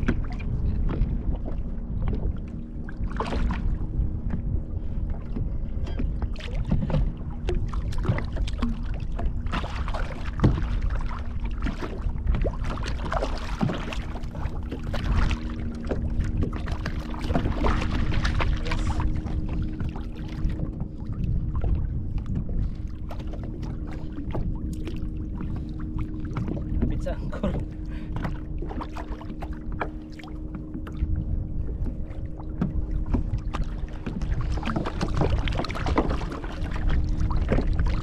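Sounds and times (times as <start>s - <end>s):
low rumble: 0.0s - 38.0s
water splashing against kayak hull: 0.0s - 38.0s.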